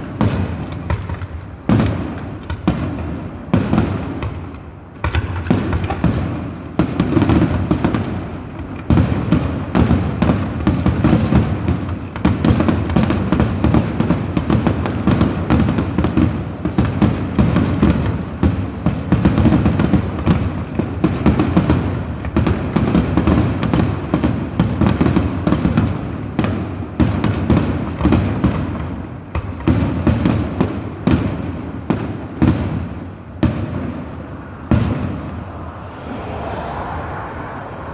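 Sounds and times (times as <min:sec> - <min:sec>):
fireworks booming and crackling: 0:00.0 - 0:37.9.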